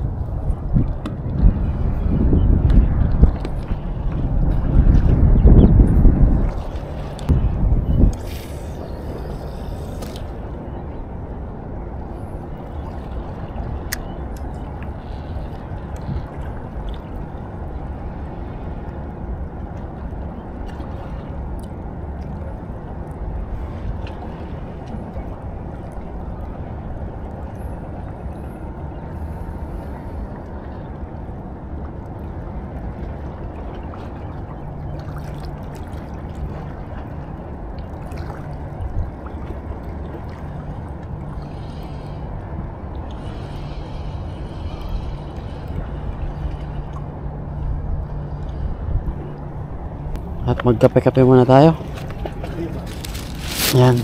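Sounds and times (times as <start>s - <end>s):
sea water at shoreline: 0.0s - 54.0s
wind: 0.0s - 54.0s.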